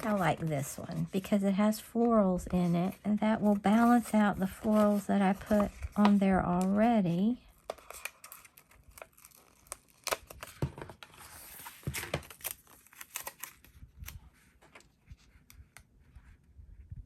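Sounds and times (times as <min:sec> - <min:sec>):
paper clicks and crinkles: 0:02.1 - 0:16.3.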